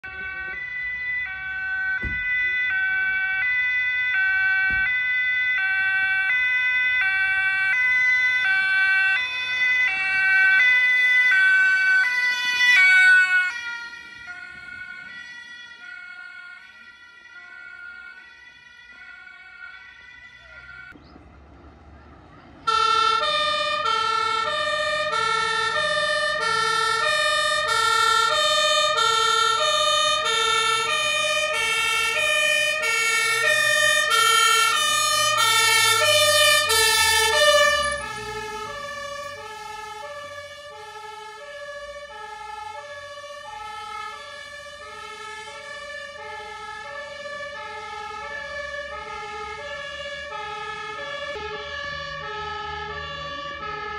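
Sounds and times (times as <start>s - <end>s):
two-tone fire engine siren: 0.0s - 21.0s, 22.1s - 53.9s
truck engine and tyre rumble: 0.0s - 53.9s.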